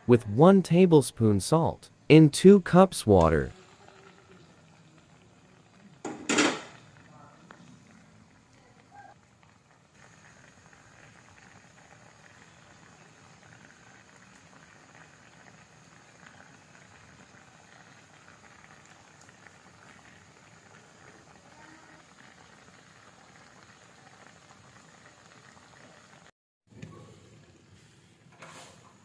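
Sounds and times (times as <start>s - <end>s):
water boiling in a pan: 3.5s - 26.3s, 27.0s - 29.0s.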